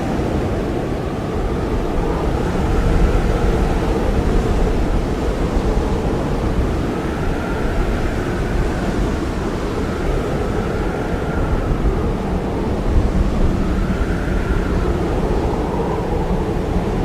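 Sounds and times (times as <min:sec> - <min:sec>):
faint wind whistling: 0:00.0 - 0:17.0
heavy blizzard wind rushing: 0:00.0 - 0:17.0.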